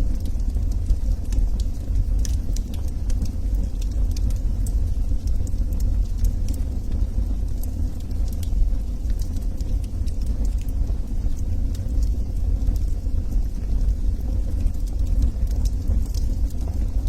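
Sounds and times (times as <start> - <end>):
fire crackles and pops: 0.0 - 17.0
low rumble of flame: 0.0 - 17.0.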